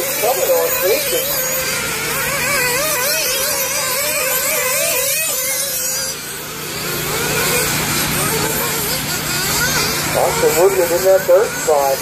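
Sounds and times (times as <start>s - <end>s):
model car engines buzzing: 0.0s - 12.0s.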